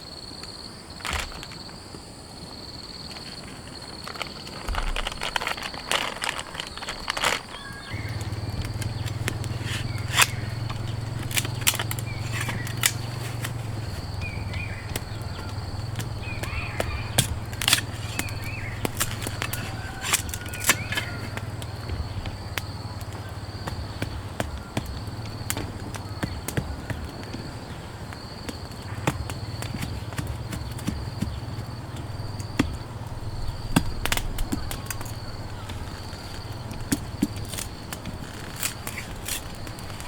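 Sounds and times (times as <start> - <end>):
insect chirping: 0.0 - 40.0
raindrops tapping on a tent: 3.0 - 40.0.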